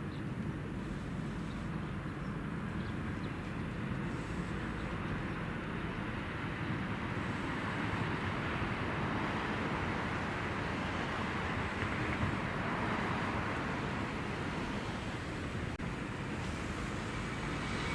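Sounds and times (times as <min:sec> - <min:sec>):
train rumbling past: 0:00.4 - 0:17.9.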